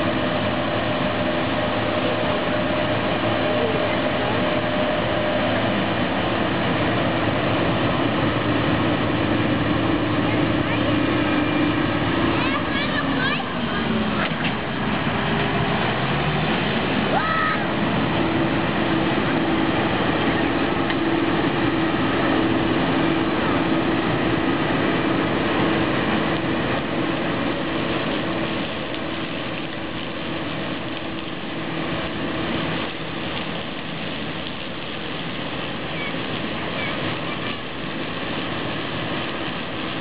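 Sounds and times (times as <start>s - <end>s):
combine harvester engine and threshing: 0.0s - 40.0s.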